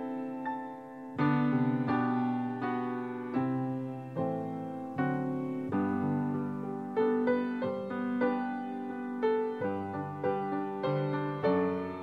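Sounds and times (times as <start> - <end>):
gentle solo piano: 0.0 - 12.0.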